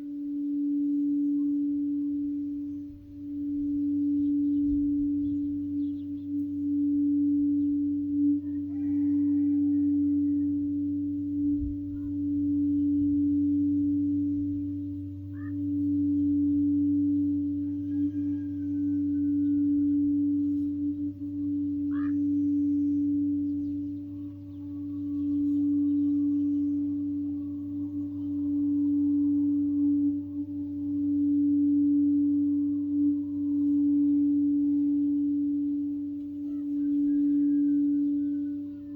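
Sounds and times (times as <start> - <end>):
singing bowl tone: 0.0 - 38.9.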